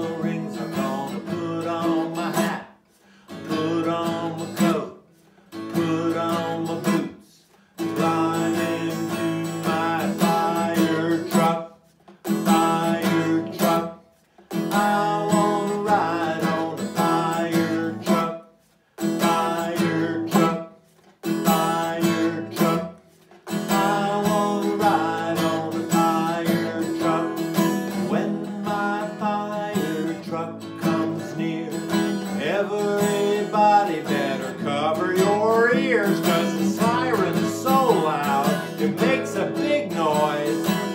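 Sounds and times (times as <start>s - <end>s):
acoustic guitar strumming: 0.0s - 40.9s
man singing: 0.0s - 40.9s.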